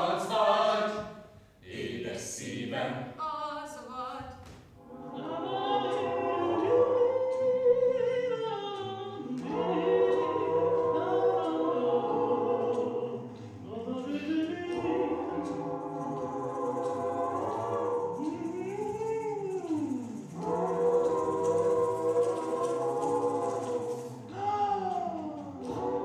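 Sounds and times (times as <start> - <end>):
choir singing in harmony: 0.0 - 3.2, 4.8 - 26.0.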